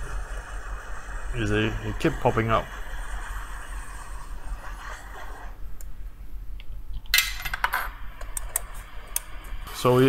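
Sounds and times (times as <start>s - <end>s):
hot-air station hissing: 0.0s - 5.9s, 7.8s - 10.0s.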